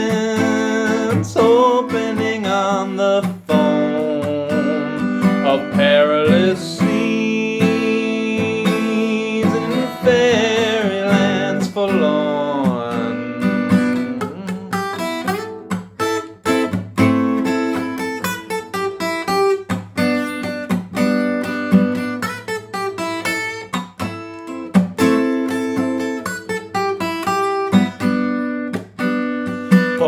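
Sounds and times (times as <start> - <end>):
acoustic guitar music: 0.0 - 30.0.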